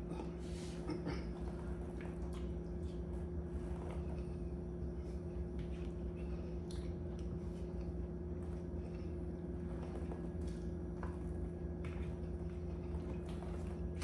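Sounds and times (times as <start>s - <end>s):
appliance hum: 0.0s - 14.0s
soft chewing: 0.0s - 14.0s.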